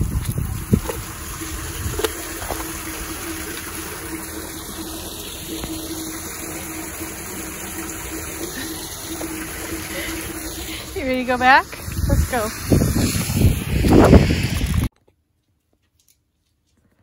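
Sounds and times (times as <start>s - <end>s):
running rainwater: 0.0s - 14.9s.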